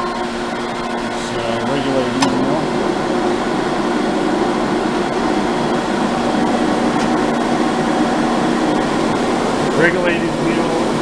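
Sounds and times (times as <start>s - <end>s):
grinder machine hum: 0.0s - 11.0s.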